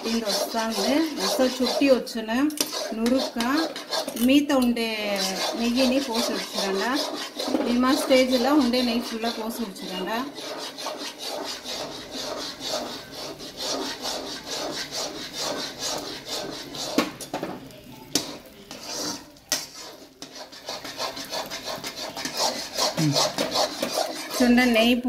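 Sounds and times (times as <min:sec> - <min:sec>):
metal spatula scraping a pan: 0:00.0 - 0:25.0.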